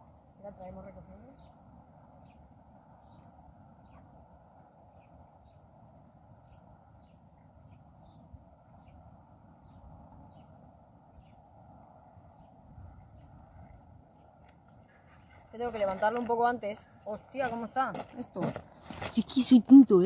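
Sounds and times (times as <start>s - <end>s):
faint steady background noise: 0.0s - 20.0s.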